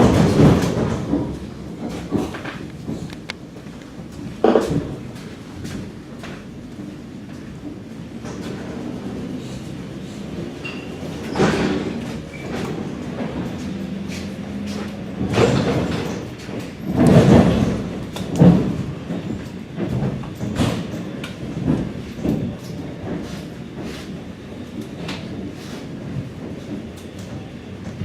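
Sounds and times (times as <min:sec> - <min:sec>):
train knocking and rattling: 0:00.0 - 0:28.0.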